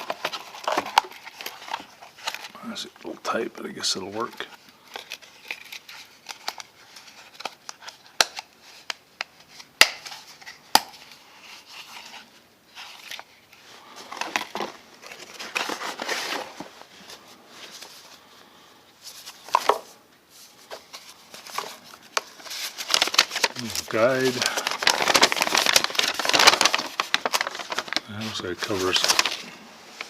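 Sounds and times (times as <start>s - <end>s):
packaging rustling and crinkling: 0.0s - 30.0s.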